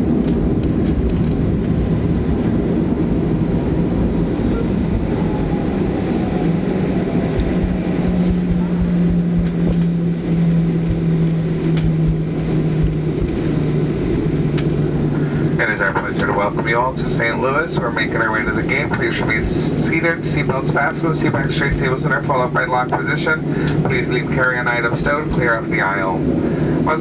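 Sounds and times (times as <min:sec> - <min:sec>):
airplane cabin rumble: 0:00.0 - 0:27.0
steady low hum: 0:00.0 - 0:27.0.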